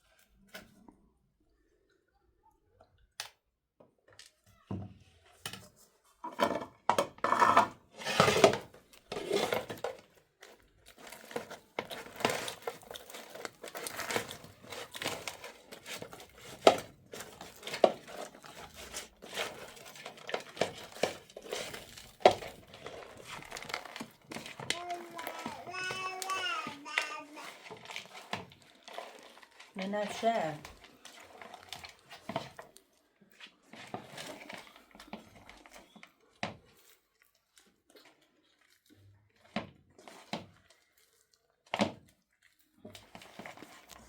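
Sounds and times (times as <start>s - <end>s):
rustling and crinkling: 4.0s - 44.0s.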